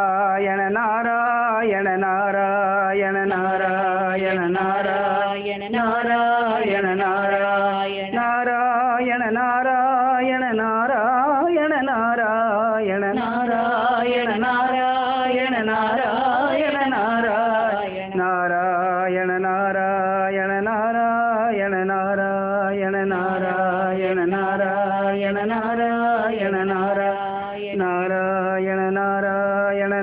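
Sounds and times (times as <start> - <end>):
voices chanting devotional song: 0.0 - 30.0.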